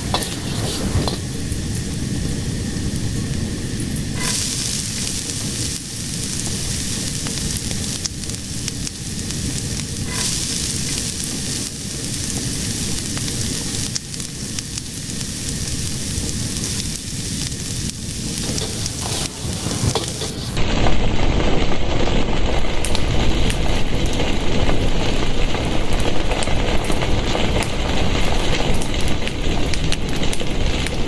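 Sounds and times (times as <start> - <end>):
fire burning: 0.0 - 31.0
low rumble: 0.0 - 31.0.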